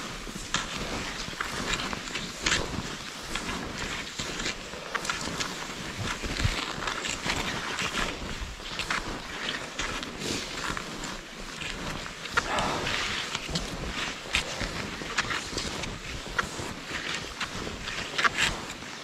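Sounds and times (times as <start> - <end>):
footsteps crunching in snow: 0.0 - 19.0.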